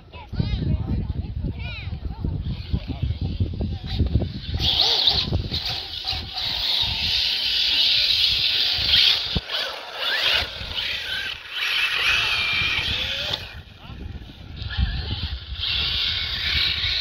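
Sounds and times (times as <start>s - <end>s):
wind buffeting microphone: 0.0s - 17.0s
toy car electric motor whining: 2.4s - 17.0s.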